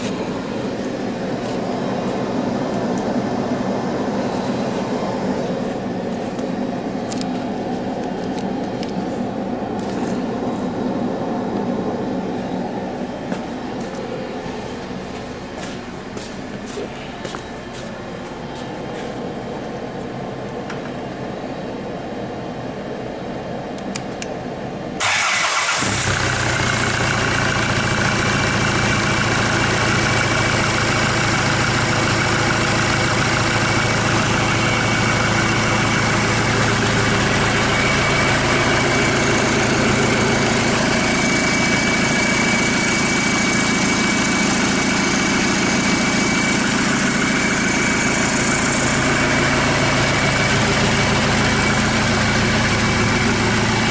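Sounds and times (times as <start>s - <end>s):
diesel engine starting and idling: 0.0s - 17.7s, 25.0s - 53.9s
steady low hum: 0.0s - 25.0s, 26.4s - 53.9s.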